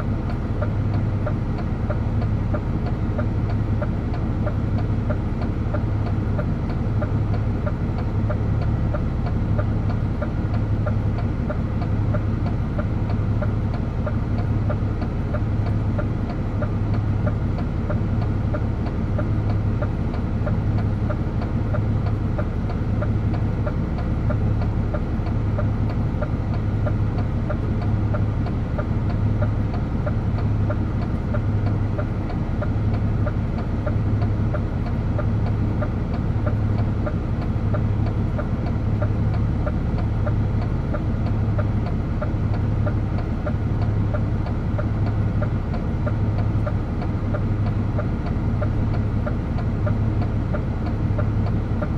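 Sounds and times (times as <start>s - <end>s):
diesel truck engine droning: 0.0s - 51.9s.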